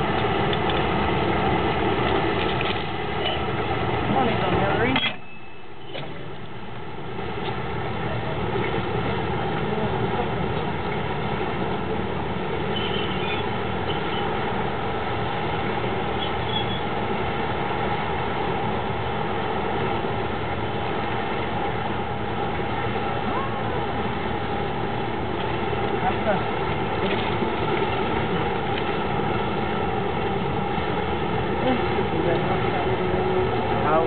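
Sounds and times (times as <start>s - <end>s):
diesel locomotive engine running: 0.0s - 34.0s.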